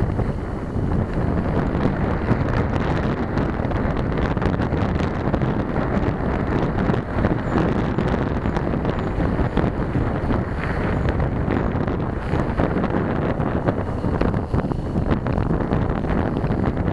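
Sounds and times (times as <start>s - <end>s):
bicycle rattling on gravel: 0.0s - 16.9s
wind buffeting microphone: 0.0s - 16.9s.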